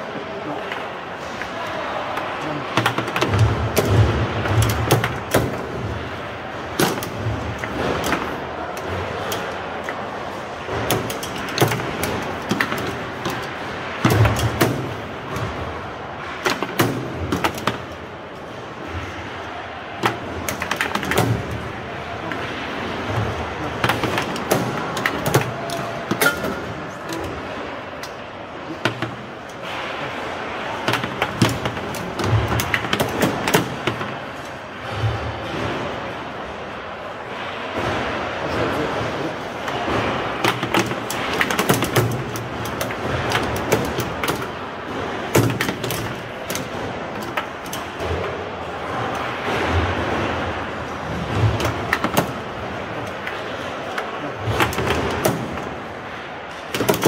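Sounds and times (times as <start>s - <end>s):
foosball ball knocks and clacks: 1.4s - 28.2s, 28.8s - 36.0s, 37.7s - 57.0s.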